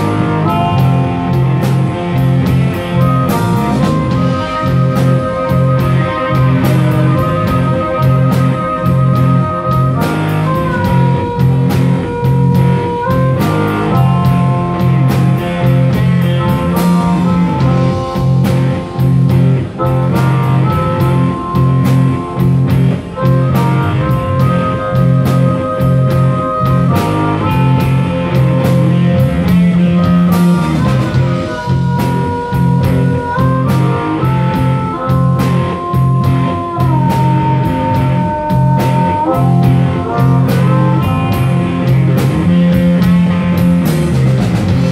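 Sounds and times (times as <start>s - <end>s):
bass guitar: 0.0s - 44.9s
drum kit steady beat: 0.0s - 44.9s
electric guitar: 0.0s - 44.9s
harmonica held notes: 0.0s - 44.9s.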